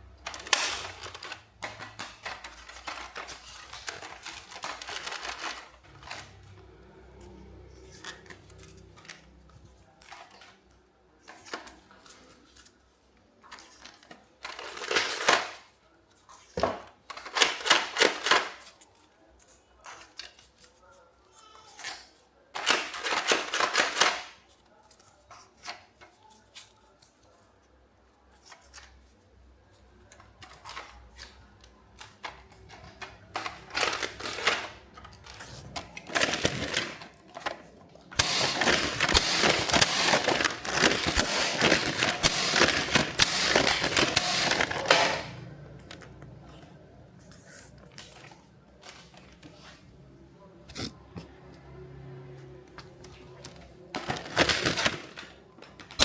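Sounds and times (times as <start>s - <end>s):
plastic toys clicking and rattling: 0.0s - 27.5s, 29.8s - 46.2s, 53.0s - 56.0s.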